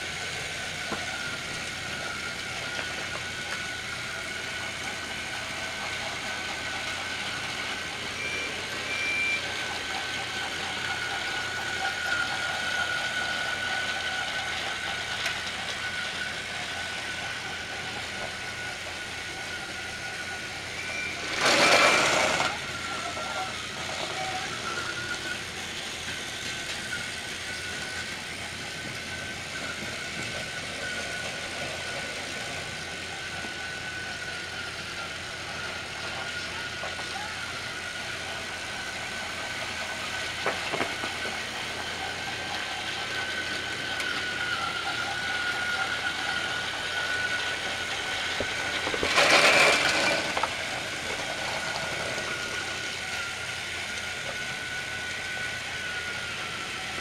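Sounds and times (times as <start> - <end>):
rattle of wheels on track: 0.0 - 57.0
toy train motor whine: 0.0 - 57.0.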